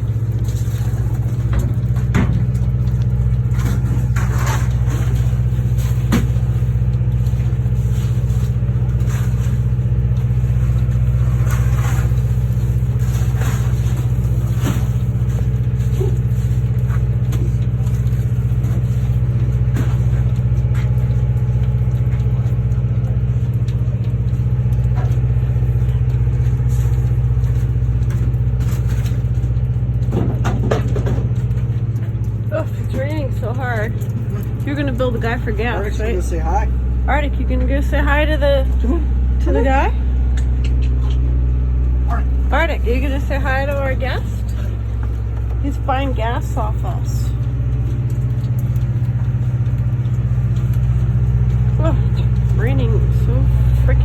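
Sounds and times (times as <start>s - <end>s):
low motor hum: 0.0s - 54.0s.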